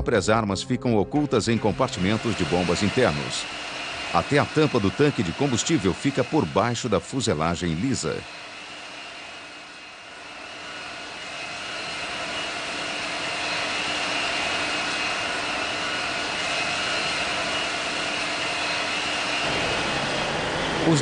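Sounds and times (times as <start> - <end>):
thin high whine: 0.8 - 21.0
jet engine roar: 1.2 - 21.0.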